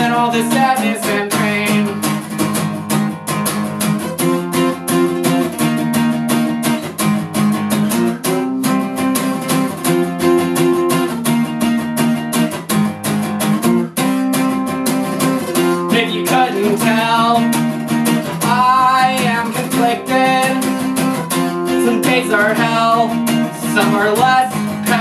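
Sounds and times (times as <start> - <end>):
strummed guitar chords: 0.0 - 25.0.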